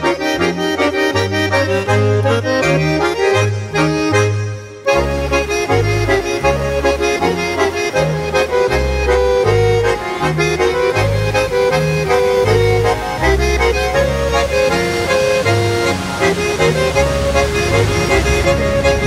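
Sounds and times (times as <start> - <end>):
accordion folk dance music: 0.0 - 19.0.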